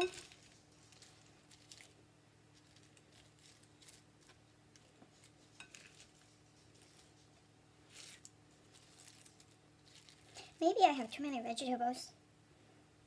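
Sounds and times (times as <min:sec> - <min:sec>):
soft rustles of greens: 0:00.0 - 0:12.1
low steady hum: 0:00.0 - 0:13.0.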